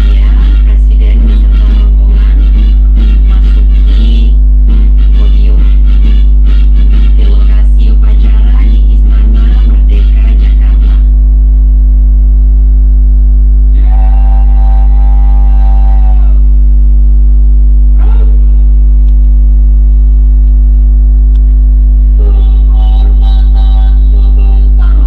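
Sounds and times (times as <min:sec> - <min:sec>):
electrical mains hum: 0:00.0 - 0:25.0
held pitched tone: 0:00.0 - 0:25.0.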